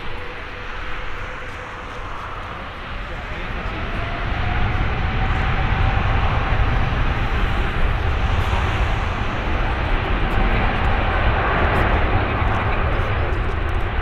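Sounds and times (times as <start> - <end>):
faint engine whine: 0.0 - 14.0
jet engines at takeoff thrust: 0.0 - 14.0.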